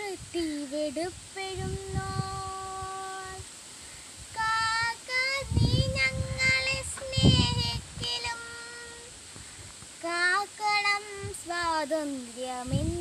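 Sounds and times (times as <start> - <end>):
girl singing unaccompanied: 0.0 - 3.6, 4.2 - 9.2, 9.9 - 13.0.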